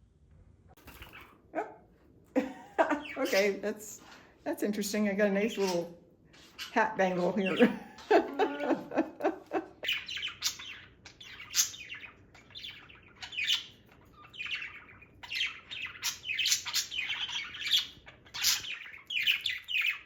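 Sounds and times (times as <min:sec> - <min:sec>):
parakeets chirping: 0:00.8 - 0:01.5, 0:02.4 - 0:20.0.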